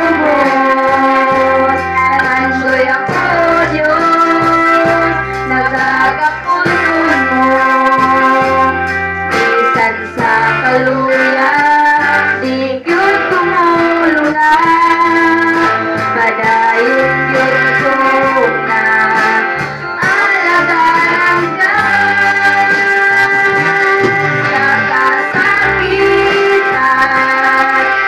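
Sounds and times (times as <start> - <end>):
electric guitar: 0.0 - 28.0
women singing worship song: 0.0 - 28.0.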